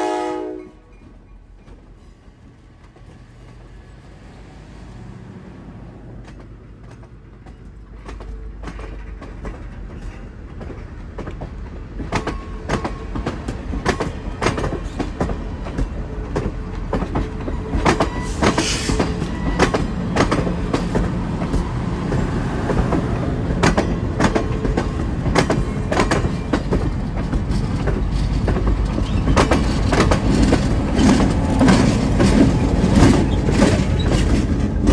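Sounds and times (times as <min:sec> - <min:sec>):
train low rumble: 0:00.0 - 0:34.9
train wheels clicking over rail joints: 0:06.0 - 0:34.9.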